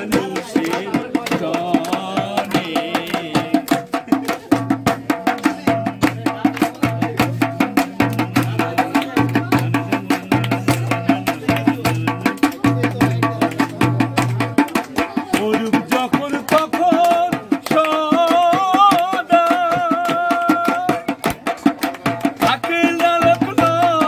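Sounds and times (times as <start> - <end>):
low bass drum head: 0.0 - 21.4
barrel drum fast rhythm: 0.0 - 24.0.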